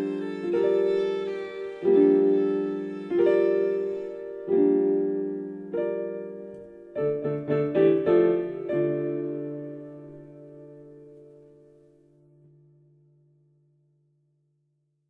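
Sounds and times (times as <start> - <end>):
slow piano music: 0.0 - 13.8.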